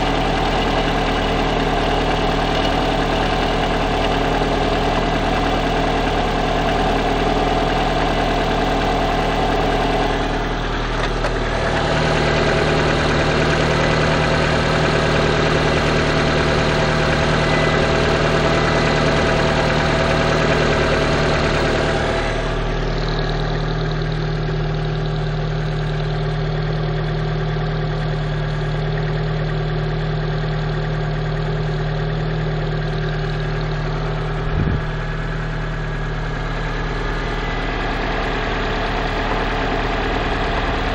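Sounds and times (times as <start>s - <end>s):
car engine idling: 0.0s - 40.9s
engine knocking: 0.0s - 40.9s.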